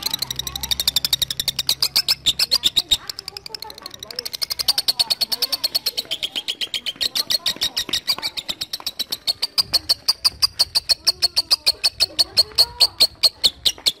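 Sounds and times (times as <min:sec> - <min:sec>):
lovebird chattering trill: 0:00.0 - 0:14.0.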